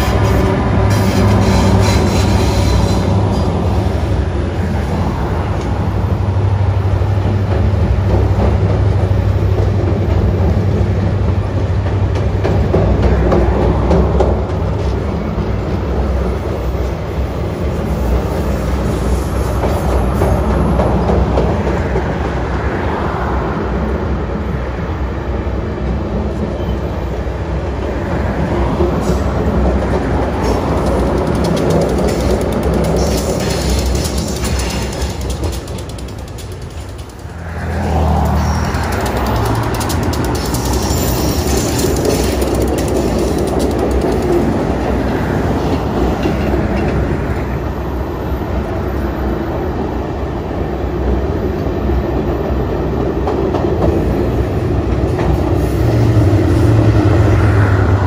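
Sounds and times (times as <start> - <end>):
diesel locomotive engine: 0.0 - 58.0
steel wheels on rail over bridge: 0.0 - 58.0.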